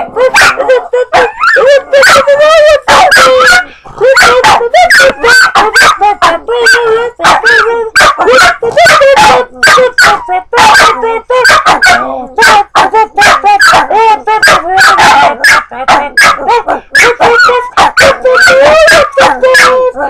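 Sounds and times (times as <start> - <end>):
dogs barking and yipping: 0.0 - 20.0.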